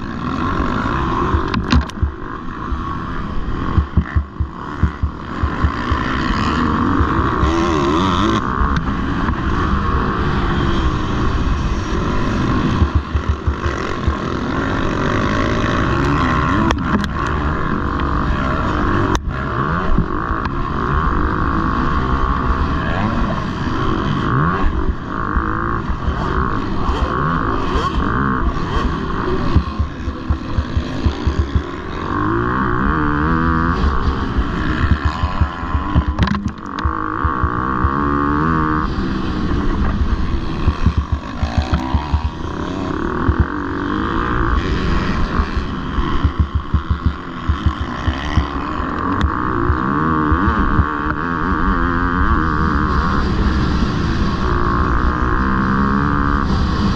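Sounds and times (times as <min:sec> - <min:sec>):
motocross bike engines revving: 0:00.0 - 0:56.9.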